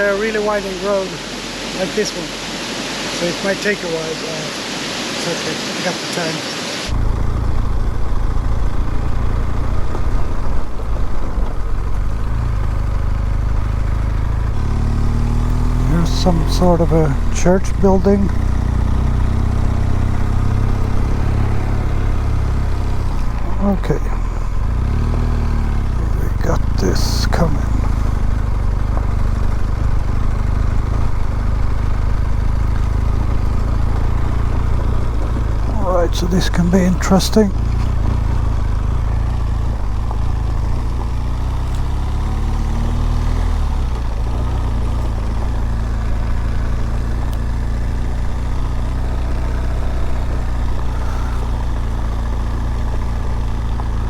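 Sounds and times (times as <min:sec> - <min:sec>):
road noise: 0:00.0 - 0:54.0
motorcycle engine running: 0:06.9 - 0:54.0.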